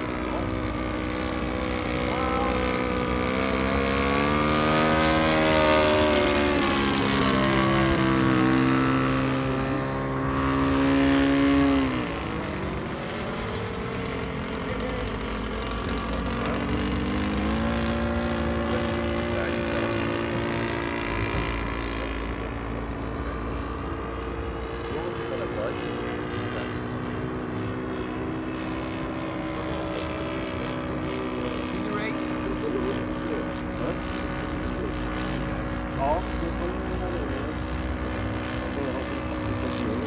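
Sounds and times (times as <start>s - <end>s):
model aeroplane engine droning: 0.0s - 40.0s.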